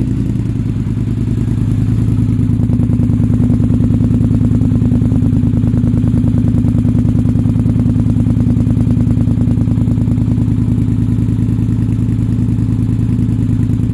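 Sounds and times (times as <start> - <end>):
atv engine idling: 0.0 - 13.9.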